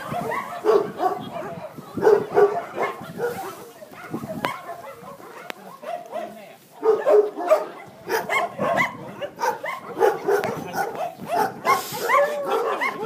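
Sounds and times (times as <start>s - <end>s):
many dogs barking and yipping: 0.0s - 13.0s.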